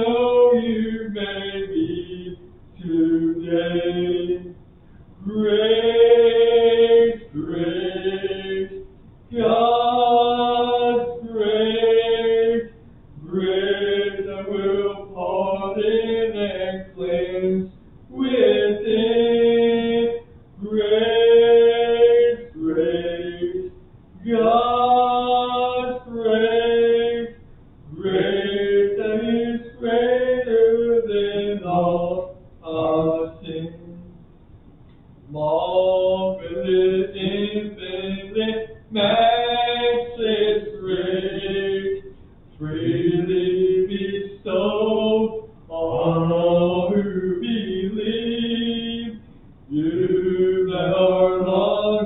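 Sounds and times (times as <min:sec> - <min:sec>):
hymn singing: 0:00.0 - 0:52.0.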